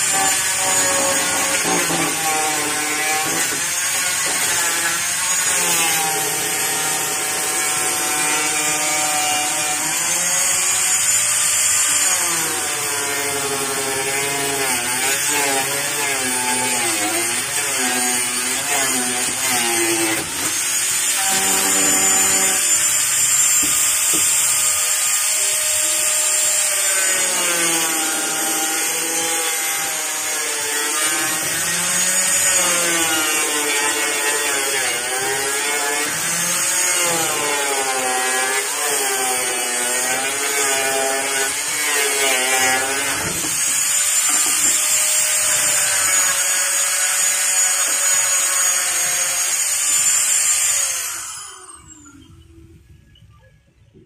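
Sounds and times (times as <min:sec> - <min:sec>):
angle grinder cutting plywood: 0:00.0 - 0:52.4.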